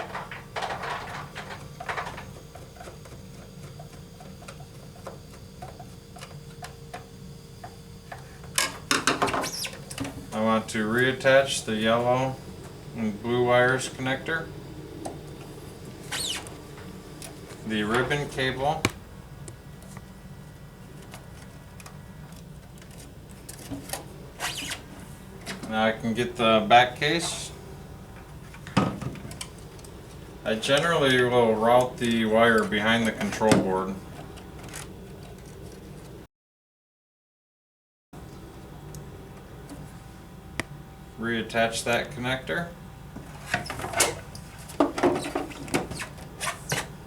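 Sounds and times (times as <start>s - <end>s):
steady low hum: 0.0s - 36.3s, 38.2s - 47.0s.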